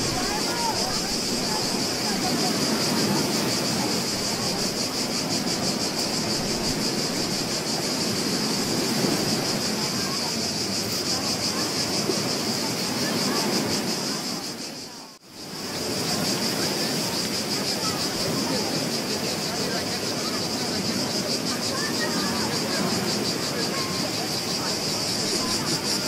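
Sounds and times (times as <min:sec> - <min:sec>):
ocean waves washing on shore: 0:00.0 - 0:26.0.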